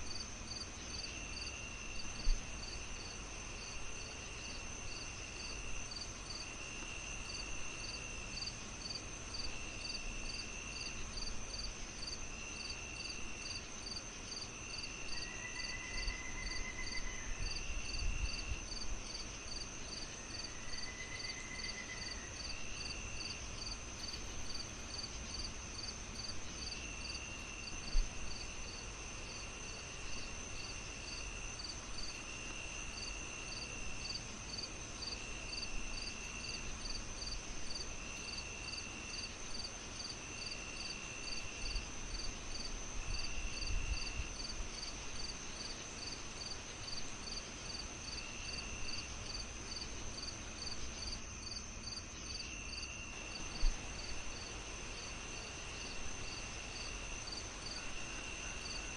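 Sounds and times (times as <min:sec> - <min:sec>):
crickets chirping: 0:00.0 - 0:58.9
insect trill: 0:00.0 - 0:58.9.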